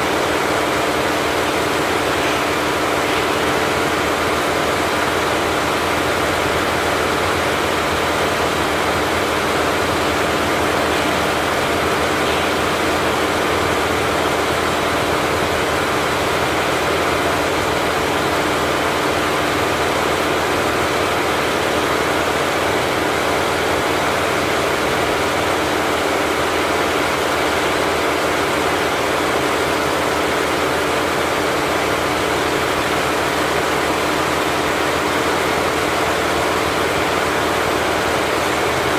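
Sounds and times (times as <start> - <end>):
embroidery machine running: 0.0 - 38.9.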